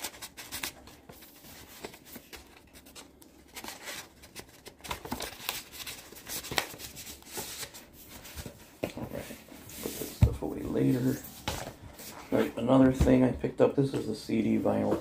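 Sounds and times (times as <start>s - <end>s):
paper and card rustling: 0.0s - 13.3s.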